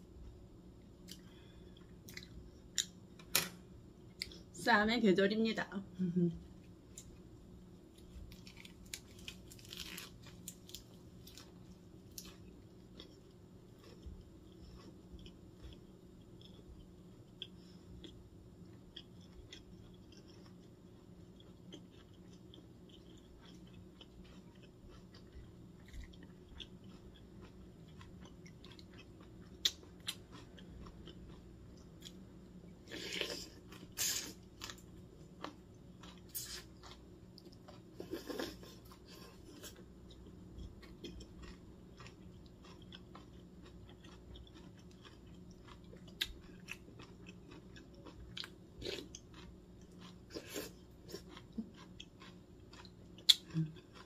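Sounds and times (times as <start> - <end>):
chewing with crisp lettuce crunches: 0.1 - 3.0, 7.9 - 54.0.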